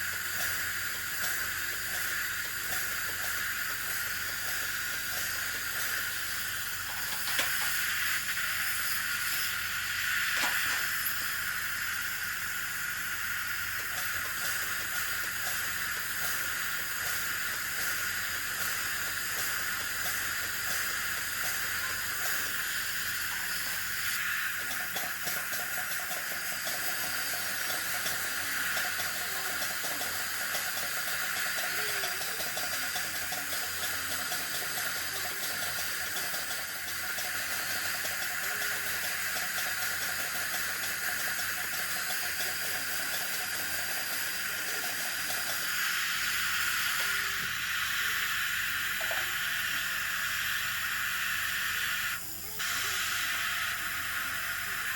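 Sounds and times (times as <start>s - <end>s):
dental suction hissing: 0.0s - 54.9s.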